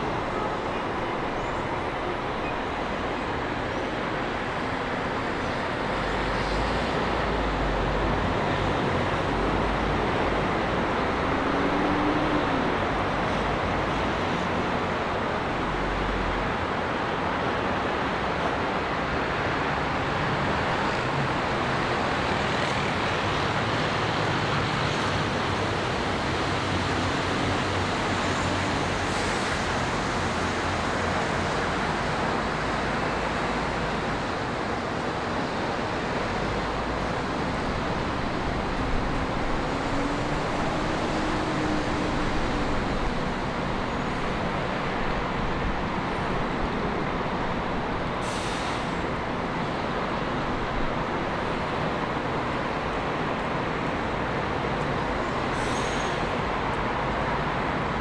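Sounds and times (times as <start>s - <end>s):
city road traffic roar: 0.0s - 58.0s.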